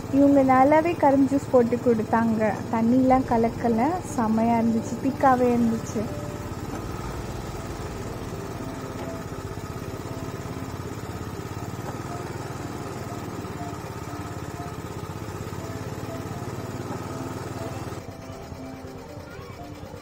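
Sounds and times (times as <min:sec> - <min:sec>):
juice machine rollers crushing cane: 0:00.0 - 0:20.0.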